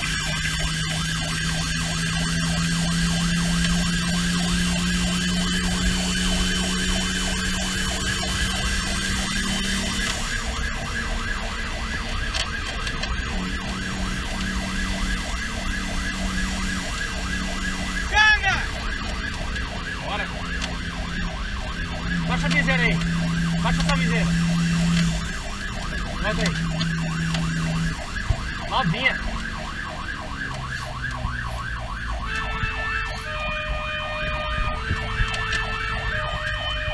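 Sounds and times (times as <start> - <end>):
fire engine siren yelping: 0.0 - 36.9
truck engine drone: 0.0 - 36.9.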